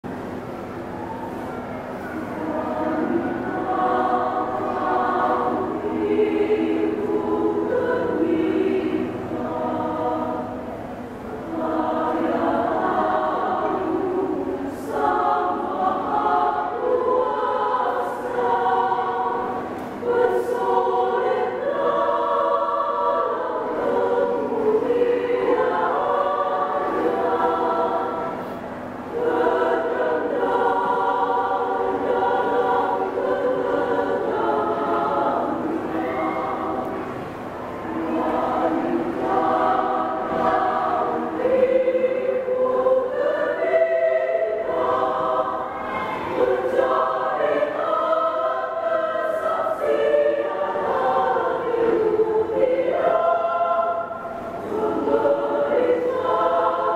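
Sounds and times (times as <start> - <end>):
women's choir singing a hymn: 0.0 - 56.9.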